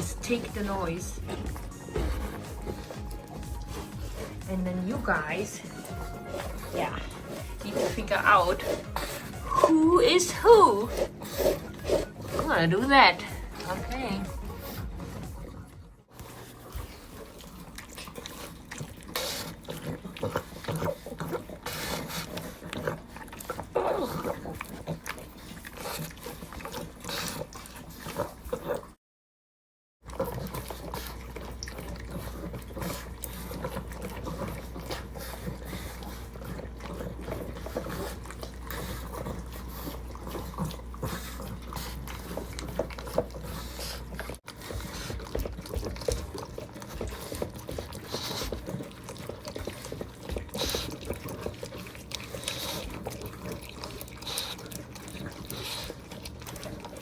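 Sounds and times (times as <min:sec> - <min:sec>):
dogs licking and slurping: 0:00.0 - 0:29.0, 0:30.0 - 0:57.0.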